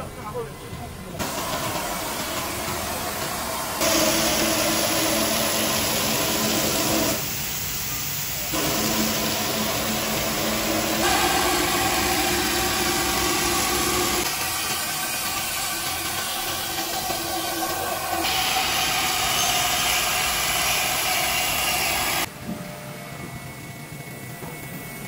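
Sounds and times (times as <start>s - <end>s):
cutter milling foam: 1.2s - 22.3s.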